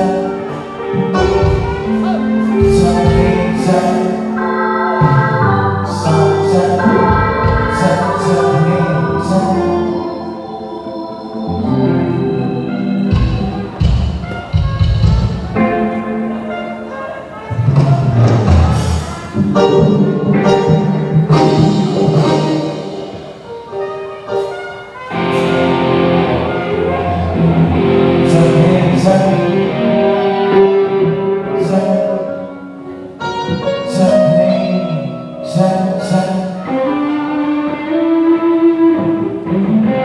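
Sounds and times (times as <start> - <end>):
band music over loudspeakers: 0.0 - 40.0.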